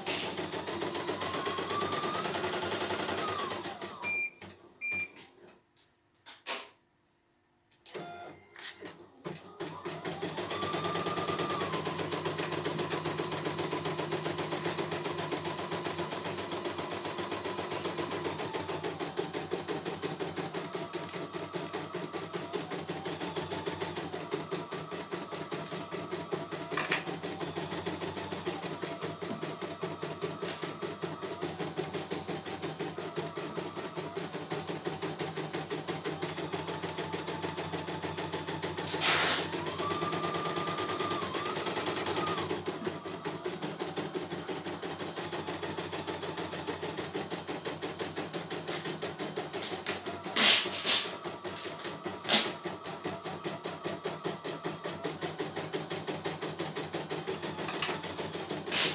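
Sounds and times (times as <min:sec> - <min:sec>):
embroidery machine stitching: 0:00.0 - 0:04.5, 0:08.8 - 0:58.9.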